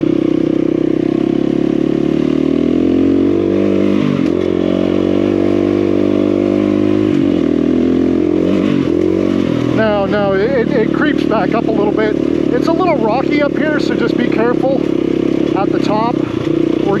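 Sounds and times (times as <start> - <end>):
dirt bike engine climbing: 0.0 - 17.0.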